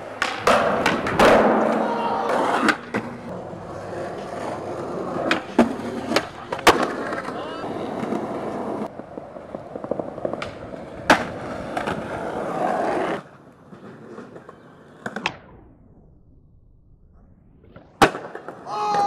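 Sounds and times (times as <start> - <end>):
skateboard clacking: 0.0 - 15.4, 17.9 - 19.0
skateboard wheels rolling on concrete: 0.0 - 16.1, 16.9 - 19.0.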